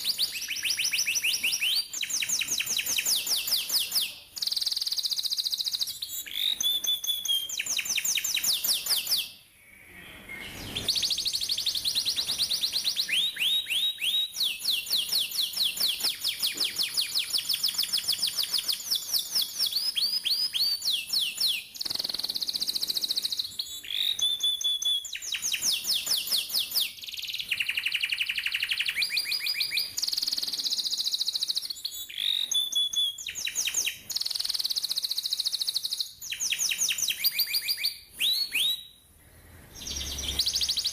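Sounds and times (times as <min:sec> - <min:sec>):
canary singing: 0:00.0 - 0:39.0, 0:39.7 - 0:40.9.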